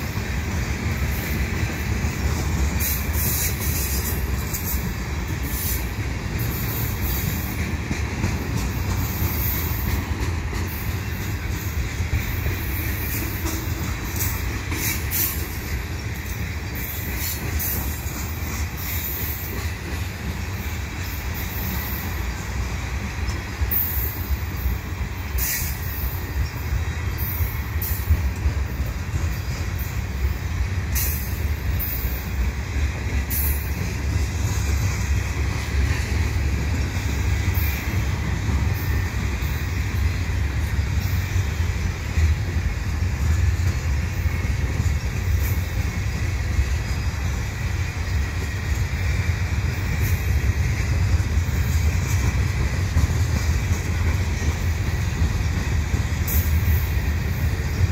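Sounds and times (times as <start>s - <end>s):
freight cars rumbling on rails: 0.0s - 57.9s
train wheel squeals: 0.0s - 57.9s.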